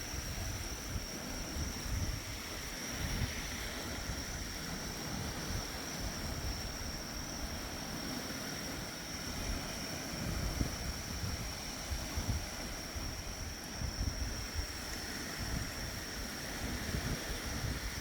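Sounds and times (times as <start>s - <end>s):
high trill of grass insects: 0.0s - 18.0s.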